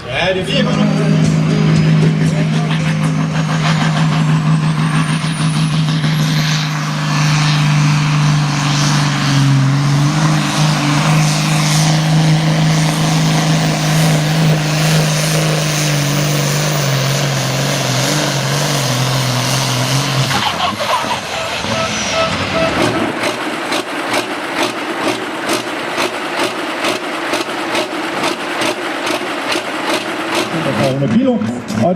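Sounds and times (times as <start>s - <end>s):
diesel engine running hard: 0.0s - 31.9s.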